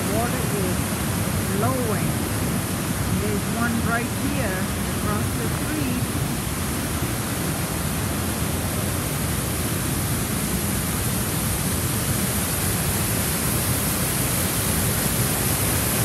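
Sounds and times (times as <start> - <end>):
waterfall cascading over rocks: 0.0 - 16.0.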